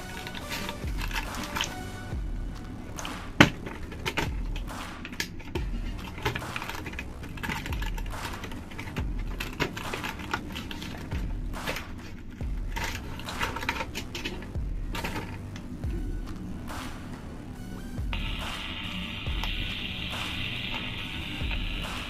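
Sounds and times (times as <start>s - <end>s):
soft background beat: 0.0s - 22.0s.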